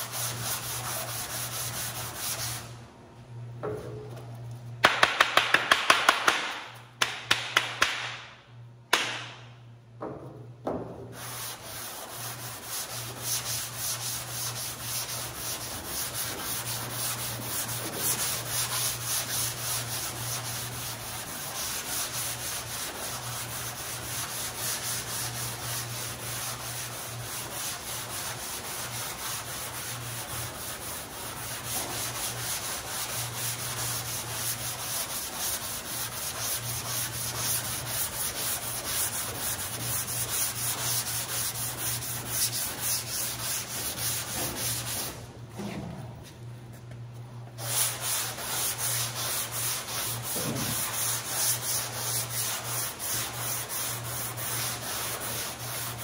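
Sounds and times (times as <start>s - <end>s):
sanding block rasping: 0.0s - 2.7s, 11.2s - 45.2s, 47.6s - 56.0s.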